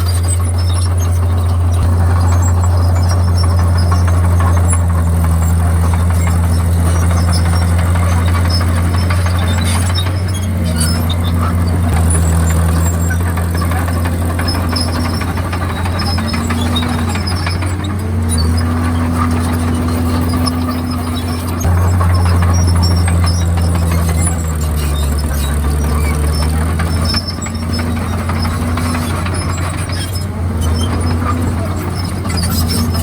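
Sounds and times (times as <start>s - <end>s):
bulldozer diesel engine running: 0.0s - 33.0s
higher engine tone: 0.0s - 33.0s.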